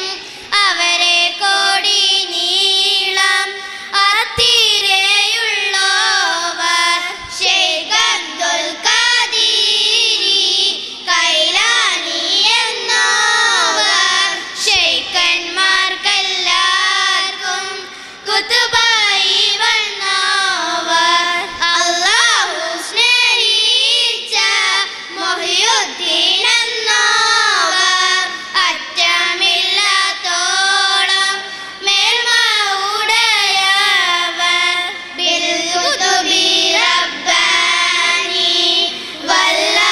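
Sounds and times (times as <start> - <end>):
girls singing together: 0.0 - 39.9.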